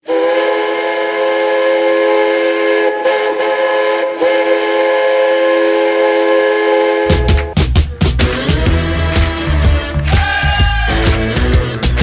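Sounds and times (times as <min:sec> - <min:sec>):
goal horn chord: 0:00.1 - 0:10.0.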